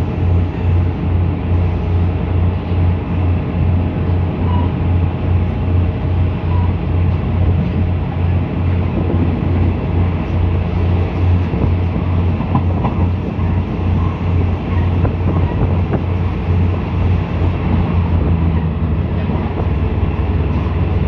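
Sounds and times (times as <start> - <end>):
train running noise with throb: 0.0 - 21.0.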